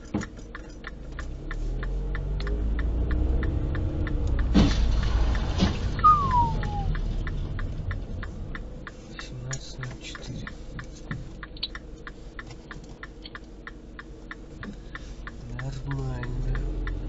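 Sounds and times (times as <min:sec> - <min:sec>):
low engine hum: 0:00.0 - 0:17.0
turn signal ticking: 0:00.0 - 0:17.0.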